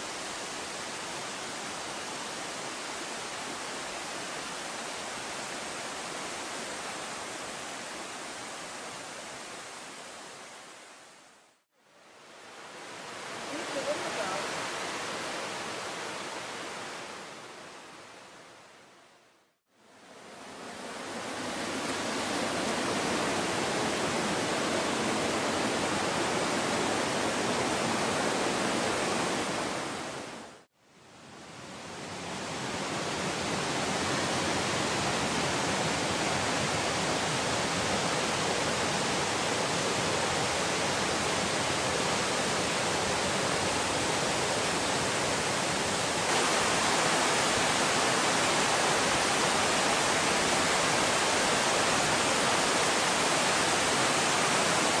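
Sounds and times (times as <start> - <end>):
fast river water rushing: 0.0 - 18.9, 19.8 - 55.0.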